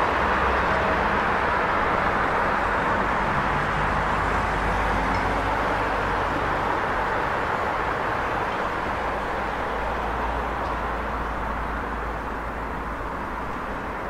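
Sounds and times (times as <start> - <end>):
busy street traffic: 0.0 - 14.0.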